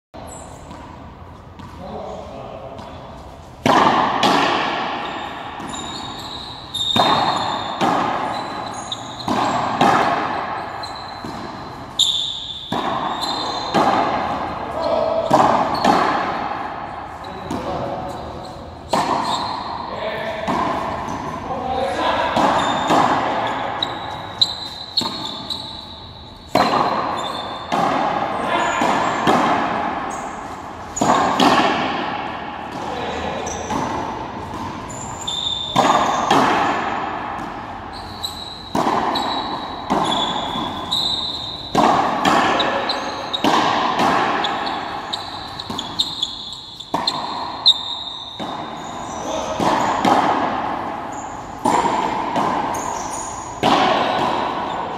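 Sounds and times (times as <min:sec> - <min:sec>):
racket striking rubber ball: 0:03.6 - 0:54.9.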